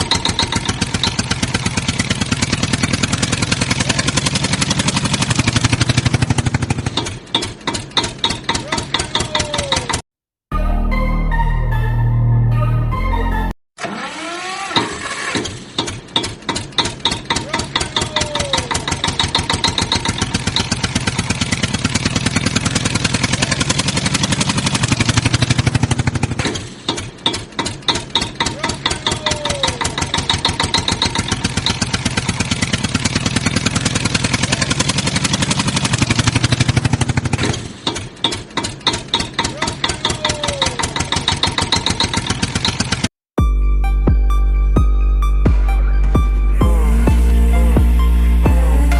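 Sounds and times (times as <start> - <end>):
tractor engine chugging: 0.0 - 10.0, 13.8 - 43.2.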